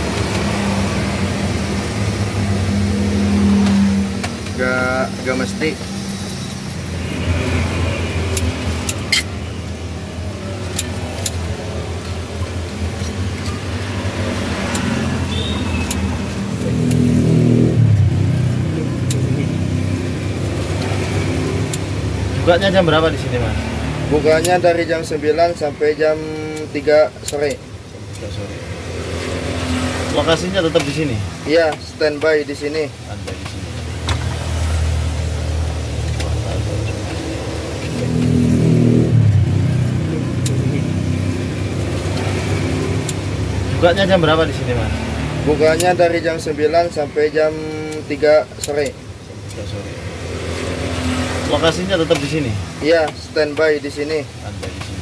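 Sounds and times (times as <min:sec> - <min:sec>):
street traffic drone: 0:00.0 - 0:55.0
vehicle engine passing: 0:00.0 - 0:55.0.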